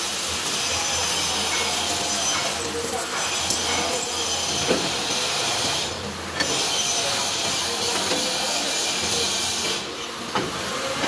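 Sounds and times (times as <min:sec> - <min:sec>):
welding arc crackling and hissing: 0:00.0 - 0:11.0.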